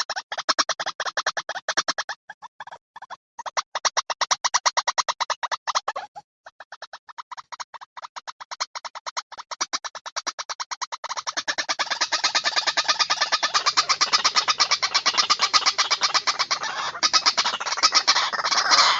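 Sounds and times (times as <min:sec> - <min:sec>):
waterhen harsh repeated calls: 0:00.0 - 0:18.9.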